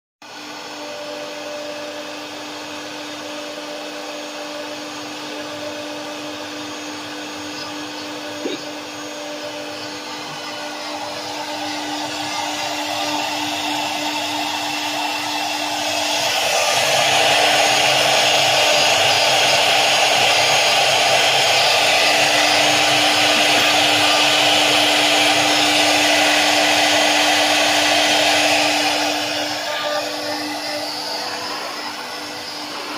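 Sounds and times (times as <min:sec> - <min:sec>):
cnc router spindles whining: 0:00.2 - 0:32.9
router bits cutting wood: 0:00.3 - 0:32.9.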